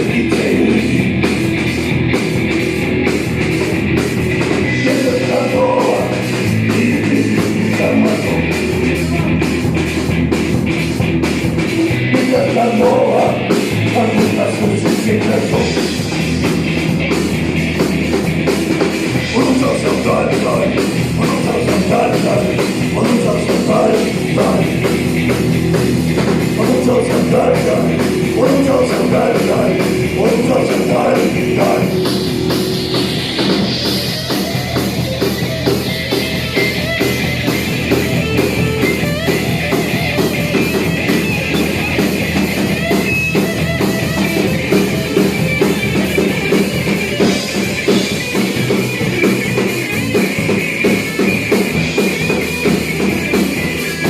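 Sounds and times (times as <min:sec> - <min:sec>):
drums driving beat: 0:00.0 - 0:54.0
melodic guitar line: 0:00.0 - 0:54.0
rock band playing: 0:00.0 - 0:54.0.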